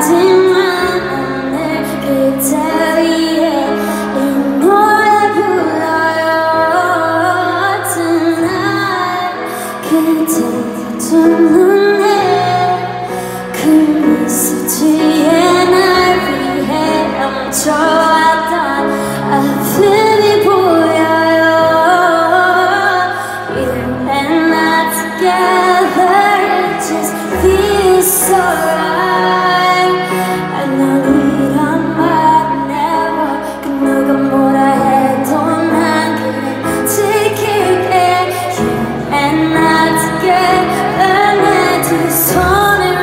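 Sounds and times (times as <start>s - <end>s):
woman singing into a microphone: 0.0s - 43.0s.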